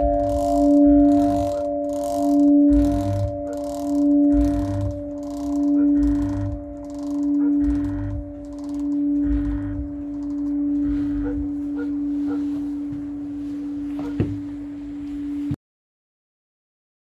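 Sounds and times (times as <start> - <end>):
church bell humming: 0.0 - 15.5.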